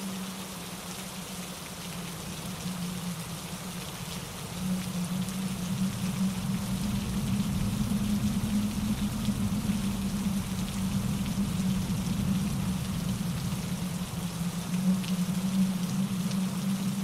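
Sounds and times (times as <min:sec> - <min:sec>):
steady rain falling: 0:00.0 - 0:17.0
stream rushing over rocks: 0:00.0 - 0:17.0.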